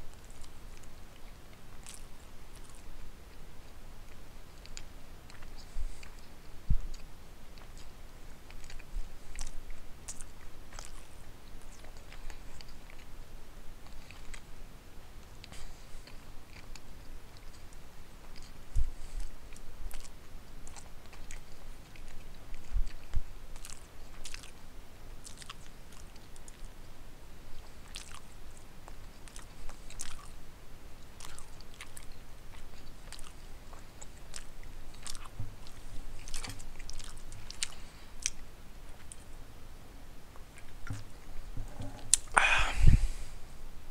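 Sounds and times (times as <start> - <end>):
person chewing food: 0.0 - 14.6, 15.2 - 26.8, 27.5 - 30.4, 31.0 - 39.4.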